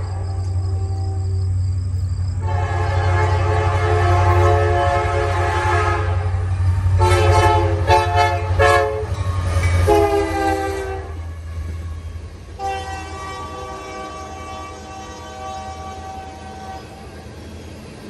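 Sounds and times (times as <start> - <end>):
train air horn blasts: 0.0 - 1.6, 2.4 - 12.0, 12.6 - 17.2
locomotive engine rumble: 0.0 - 18.0.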